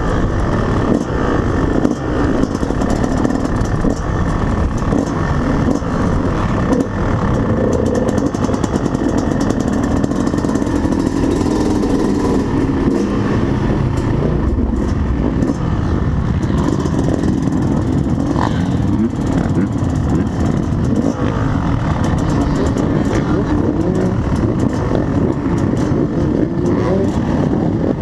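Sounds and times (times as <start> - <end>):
dirt bike engine at low revs: 0.0 - 28.0
other motocross bike engines: 0.0 - 28.0.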